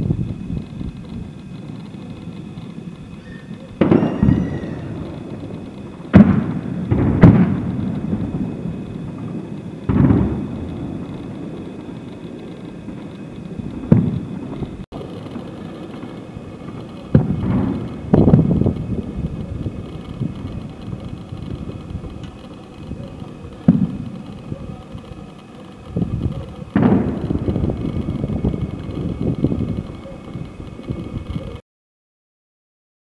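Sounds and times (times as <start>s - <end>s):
distant explosion booms: 0.0s - 31.4s.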